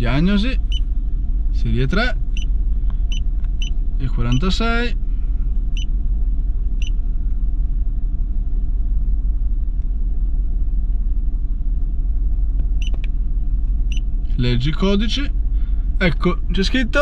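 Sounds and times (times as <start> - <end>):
car engine idling rough: 0.0 - 17.0.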